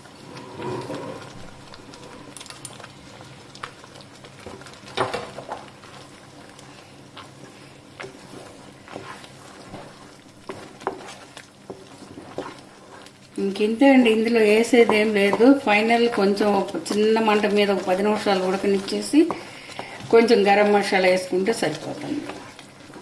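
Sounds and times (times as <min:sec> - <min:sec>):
low steady sizzle: 0:00.0 - 0:23.0.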